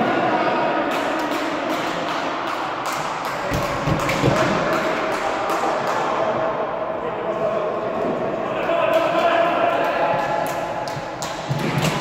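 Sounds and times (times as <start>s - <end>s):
echoing sports hall noise: 0.0s - 12.0s.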